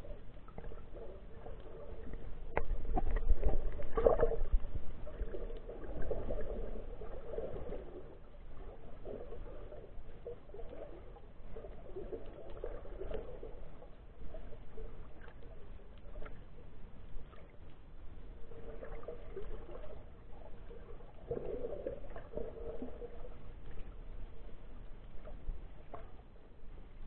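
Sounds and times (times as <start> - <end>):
muffled underwater gurgling: 0.0 - 16.5, 18.2 - 26.2
small clicks and crackles: 0.0 - 27.0.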